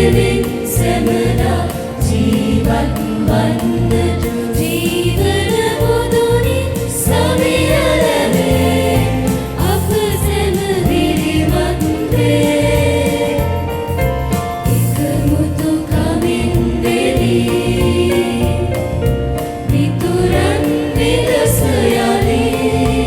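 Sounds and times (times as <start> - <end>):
church choir singing a hymn: 0.0 - 23.0
instrumental backing with bass beat: 0.0 - 23.0.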